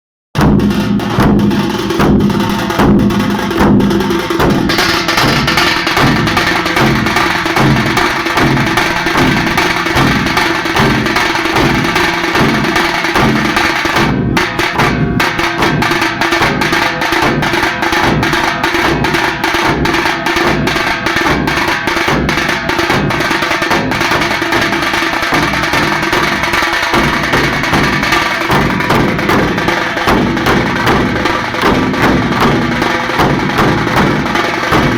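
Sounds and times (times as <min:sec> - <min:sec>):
frame drums beaten fast: 0:00.4 - 0:34.9.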